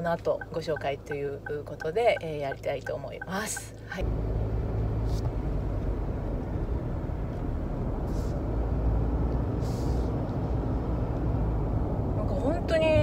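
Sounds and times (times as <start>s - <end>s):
car engine low drone: 0.0s - 13.0s
road noise: 0.0s - 13.0s.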